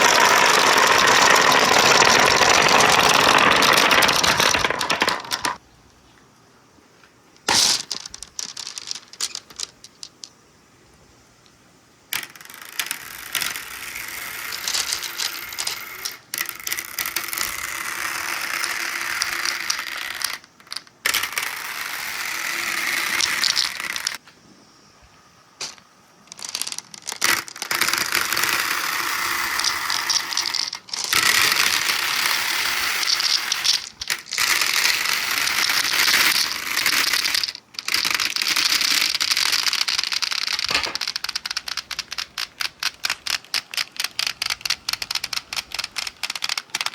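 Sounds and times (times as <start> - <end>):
marbles rolling on steel tracks: 0.0 - 5.6, 7.4 - 10.4, 12.1 - 24.2, 25.6 - 46.9.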